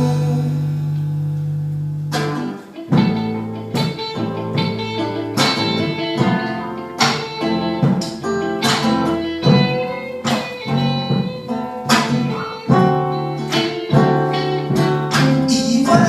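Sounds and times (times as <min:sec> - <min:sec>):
guitar chord ringing: 0:00.0 - 0:16.0
strummed guitar chords: 0:00.0 - 0:16.0.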